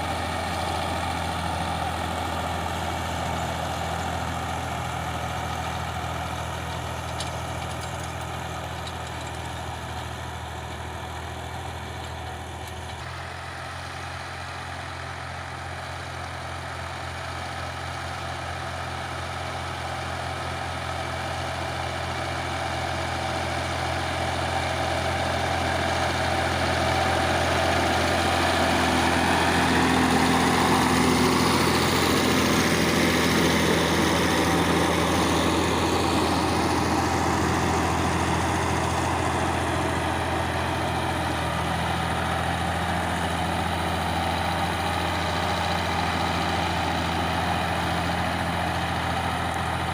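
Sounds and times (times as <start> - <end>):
diesel engine idling: 0.0 - 49.9.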